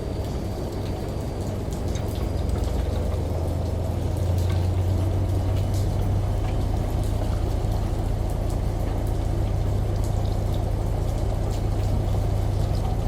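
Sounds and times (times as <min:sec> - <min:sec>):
light drips: 0:00.0 - 0:13.0
rain: 0:00.0 - 0:13.0
running water: 0:00.0 - 0:13.0
washing machine hum: 0:00.0 - 0:13.0.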